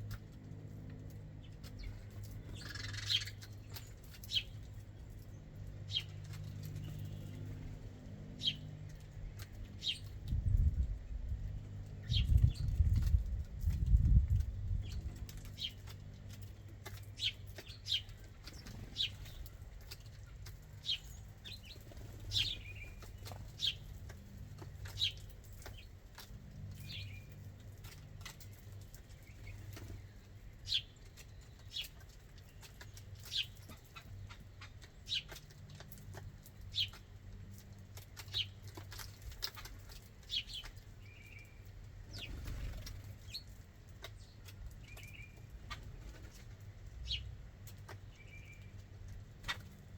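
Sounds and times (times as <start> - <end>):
birds chirping: 1.0 - 13.8, 14.7 - 49.9.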